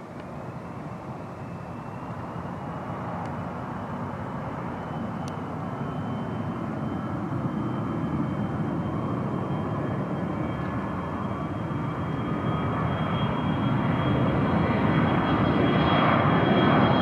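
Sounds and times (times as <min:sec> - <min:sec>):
jet engines high whine: 0:00.0 - 0:17.0
rushing jet engine noise: 0:00.0 - 0:17.0.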